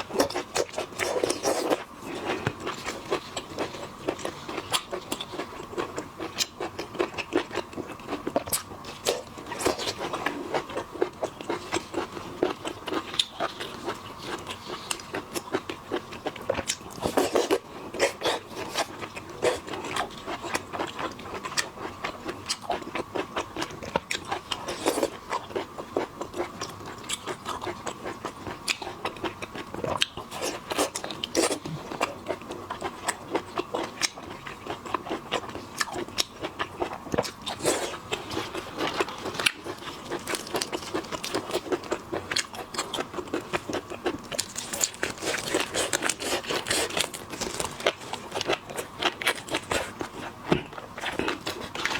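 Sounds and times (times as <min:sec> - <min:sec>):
wet chewing with crunches: 0:00.0 - 0:51.9.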